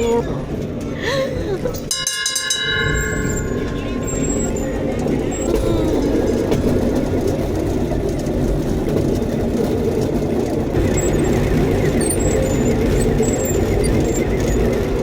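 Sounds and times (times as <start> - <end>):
steel wheels rolling on track: 0.0 - 15.0.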